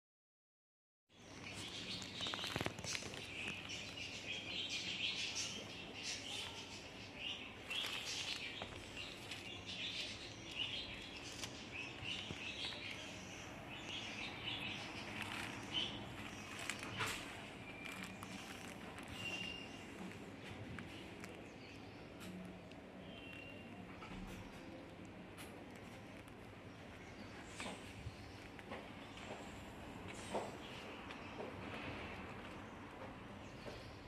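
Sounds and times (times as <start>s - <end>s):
small birds chirping: 1.1s - 34.0s.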